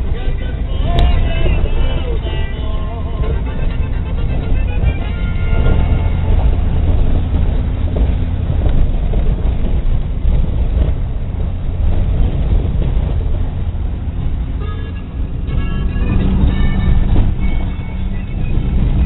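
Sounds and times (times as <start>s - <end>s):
car rumbling on dirt road: 0.0s - 19.0s.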